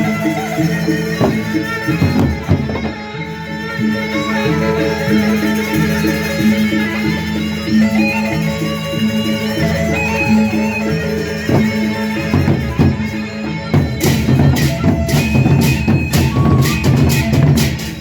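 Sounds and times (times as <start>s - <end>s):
drums beating: 0.0s - 18.0s
held melodic tones over drone: 0.0s - 18.0s.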